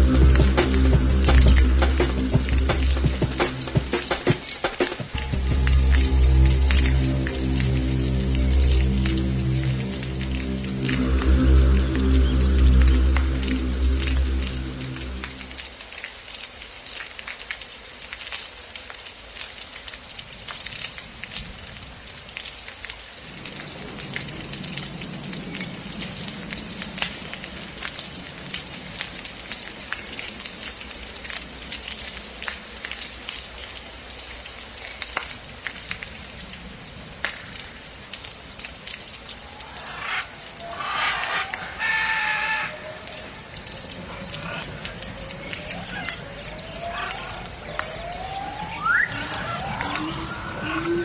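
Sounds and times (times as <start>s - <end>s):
steady rain: 0.0s - 51.0s.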